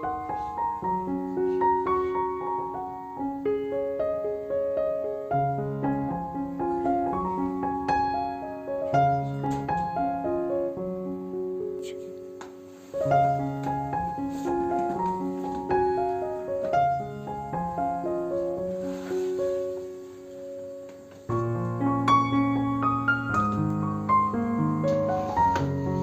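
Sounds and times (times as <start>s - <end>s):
slow gentle piano melody: 0.0s - 26.0s.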